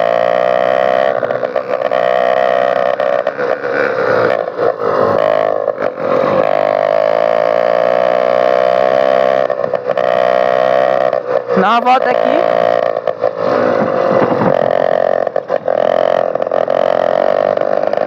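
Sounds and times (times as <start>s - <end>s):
small motor engines buzzing: 0.0s - 18.0s.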